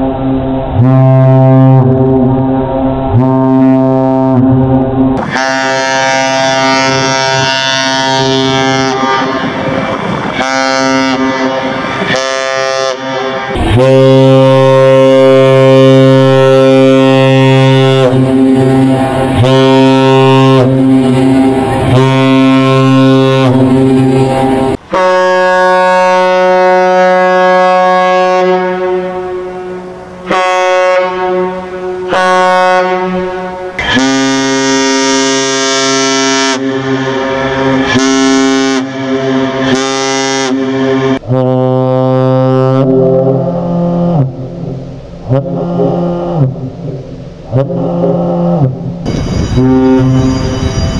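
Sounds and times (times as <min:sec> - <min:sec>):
synthesized ship horn blasts: 0:00.0 - 0:50.9.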